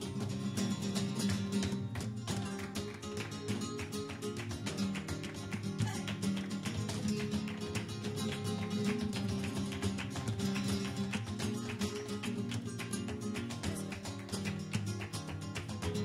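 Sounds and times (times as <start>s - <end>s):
flamenco guitar music: 0.0s - 16.0s.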